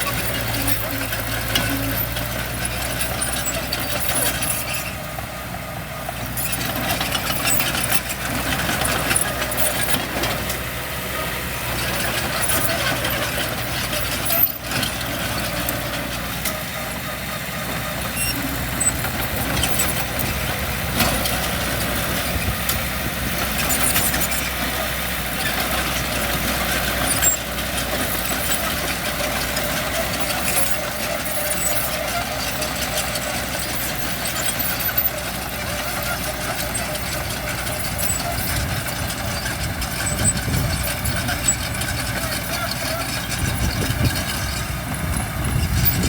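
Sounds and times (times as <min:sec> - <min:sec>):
diesel machinery running: 0:00.0 - 0:46.0.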